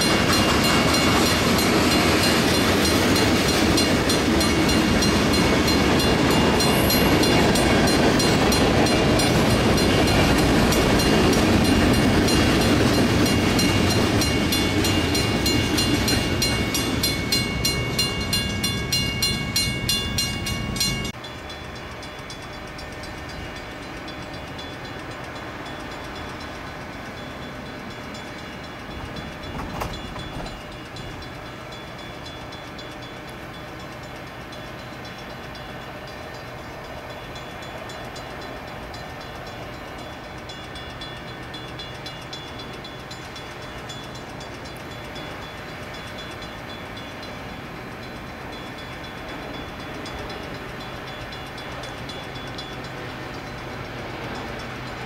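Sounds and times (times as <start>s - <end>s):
crossing bell ringing: 0.0s - 55.0s
train wheels rumbling and clacking: 0.0s - 55.0s.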